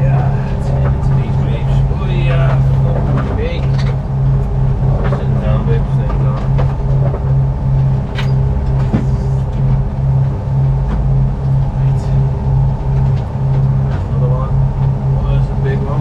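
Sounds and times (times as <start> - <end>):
boat engine throbbing drone: 0.0 - 16.0.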